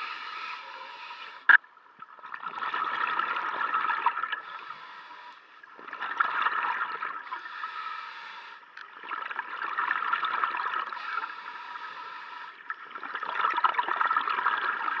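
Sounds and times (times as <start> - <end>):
underwater bubbling and gurgling: 0.0 - 15.0.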